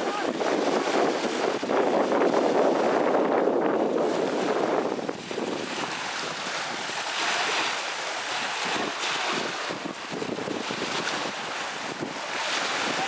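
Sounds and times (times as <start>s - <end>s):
lake waves washing on shore: 0.0s - 13.0s
wind on microphone: 0.0s - 13.0s.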